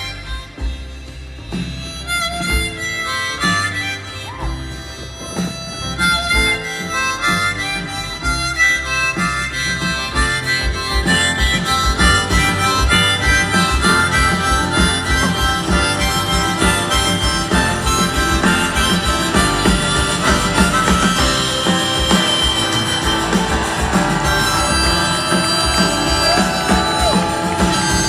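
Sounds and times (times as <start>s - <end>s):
band playing: 0.0s - 28.0s
harmonica melody: 0.0s - 28.0s.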